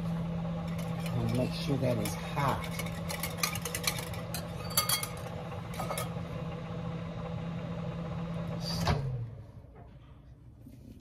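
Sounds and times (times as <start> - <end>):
microwave oven humming: 0.0 - 10.7.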